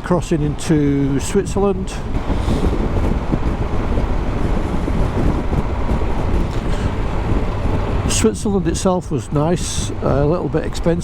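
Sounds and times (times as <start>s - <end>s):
motorcycle engine rumble: 0.0s - 11.0s
wind noise on microphone: 0.0s - 11.0s.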